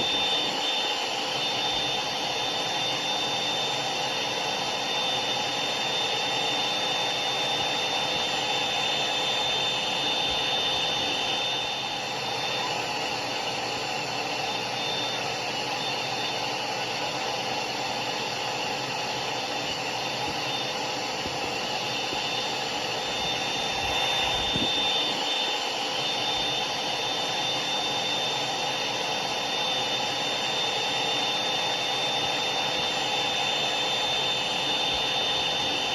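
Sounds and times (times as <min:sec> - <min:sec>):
hair dryer running: 0:00.0 - 0:35.9.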